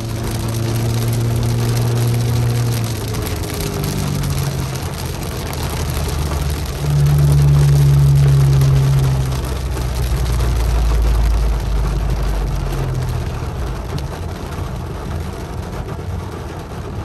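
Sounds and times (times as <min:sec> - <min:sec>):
car engine hum: 0:00.0 - 0:17.0
heavy rain drumming on car: 0:00.0 - 0:17.0.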